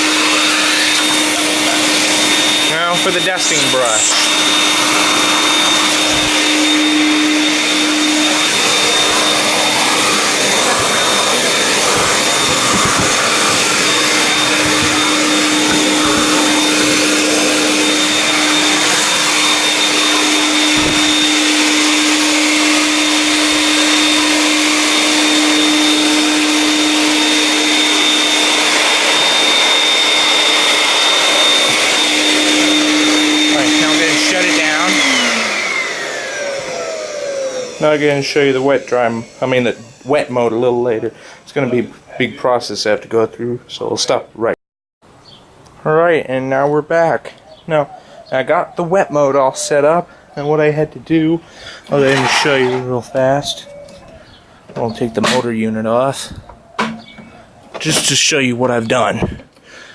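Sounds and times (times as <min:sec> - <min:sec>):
vacuum cleaner running: 0:00.0 - 0:42.9, 0:46.4 - 0:59.9.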